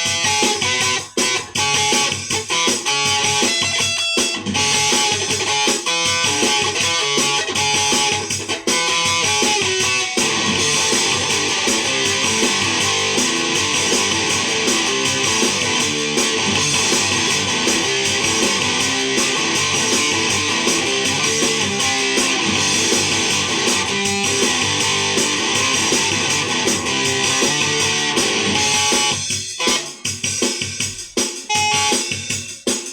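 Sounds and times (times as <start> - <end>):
strummed electric guitar: 0.0 - 30.0
drum kit playing: 0.0 - 32.9.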